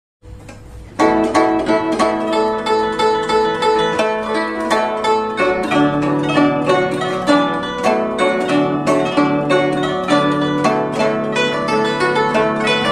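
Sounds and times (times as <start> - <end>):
plucked zither notes: 0.3 - 12.9.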